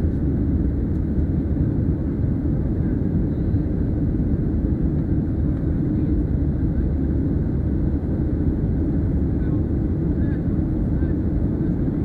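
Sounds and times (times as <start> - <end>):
airliner engines and airflow rumble: 0.0 - 12.0.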